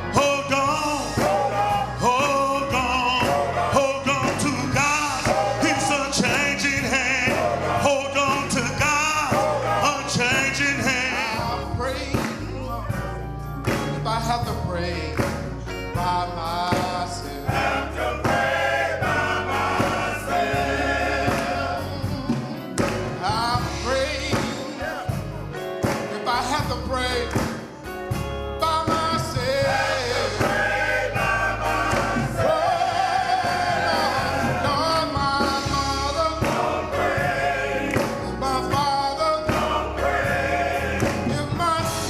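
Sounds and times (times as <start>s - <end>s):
gospel choir singing: 0.0s - 42.0s
instrumental accompaniment: 0.0s - 42.0s.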